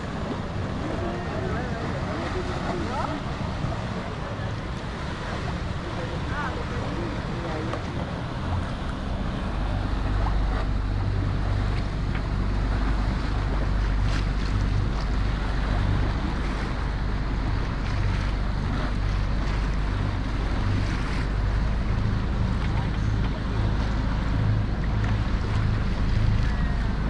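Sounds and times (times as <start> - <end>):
boat engine hum: 0.0 - 27.0
water washing along hull: 0.0 - 27.0.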